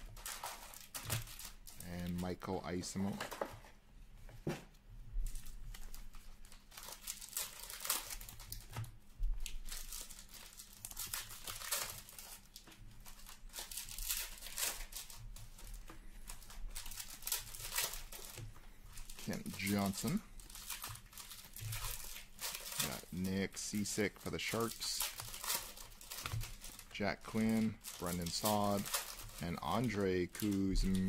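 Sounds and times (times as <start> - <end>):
foil wrapper tearing and crinkling: 0.0 - 2.4, 5.2 - 31.0.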